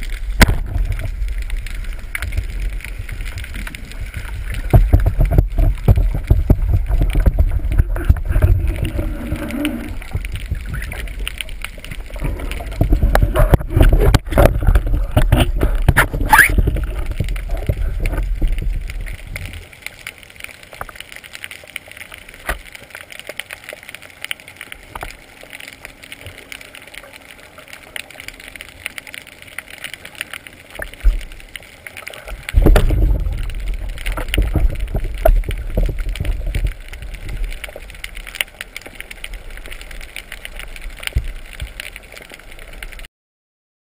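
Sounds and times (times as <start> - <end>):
water rushing and bubbling: 0.0 - 43.1.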